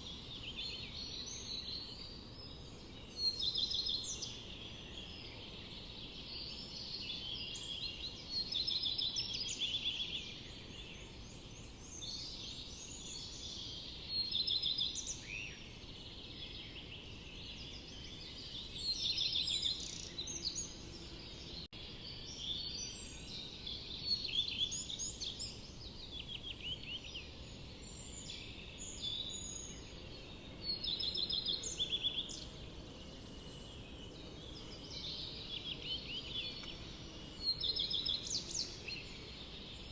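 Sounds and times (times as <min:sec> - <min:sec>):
low background hiss: 0:00.0 - 0:39.9
songbirds trilling and chirping: 0:00.0 - 0:39.9.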